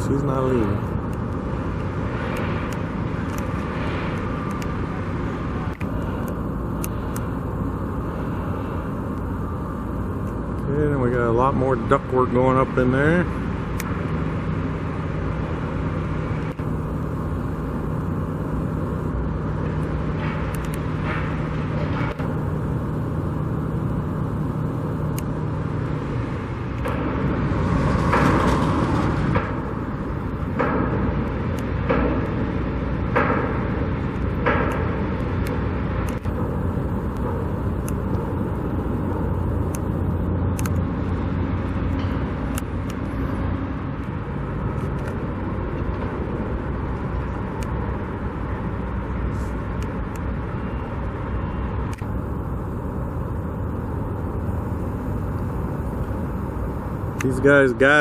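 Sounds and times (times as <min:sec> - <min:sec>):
road traffic passing: 0:00.0 - 0:58.0.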